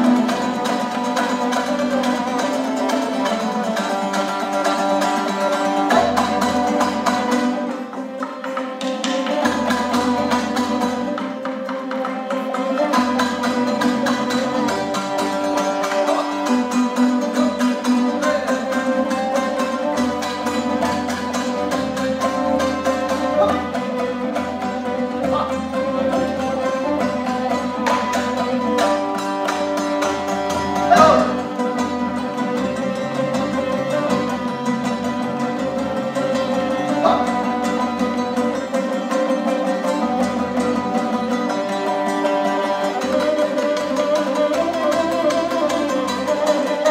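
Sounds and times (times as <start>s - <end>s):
folk ensemble with strummed lutes: 0.0s - 46.9s
plucked zither: 0.0s - 46.9s.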